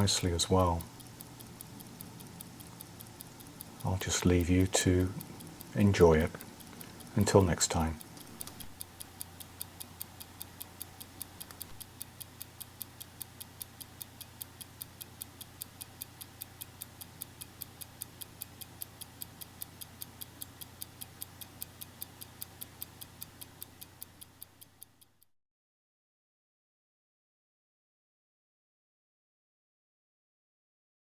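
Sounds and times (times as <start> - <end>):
faint low hum: 0.0 - 25.0
pocket watch ticking: 0.0 - 25.3.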